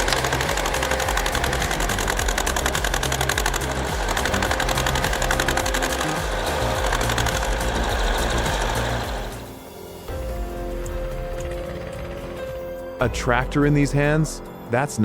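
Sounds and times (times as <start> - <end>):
engine running with fast knocking: 0.0 - 12.7.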